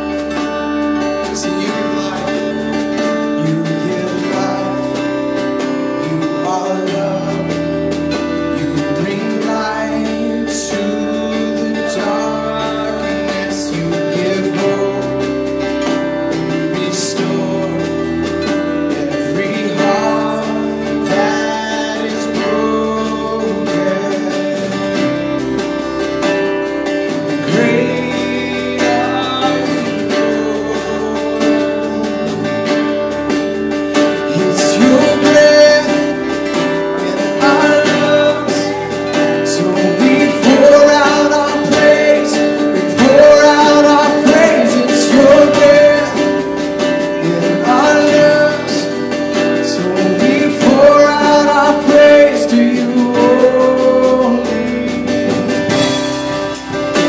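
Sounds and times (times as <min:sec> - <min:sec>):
worship band playing: 0:00.0 - 0:57.0.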